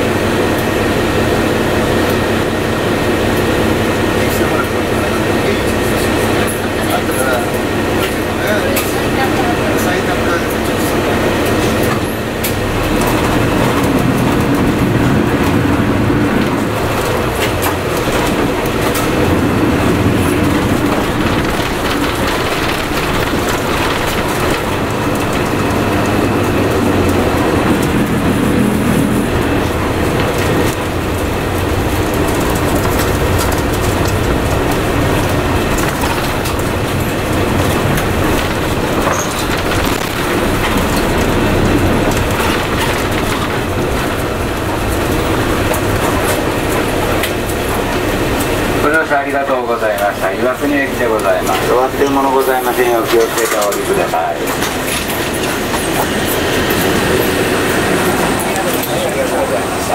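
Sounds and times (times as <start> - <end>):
bus diesel engine and road noise: 0.0 - 59.9.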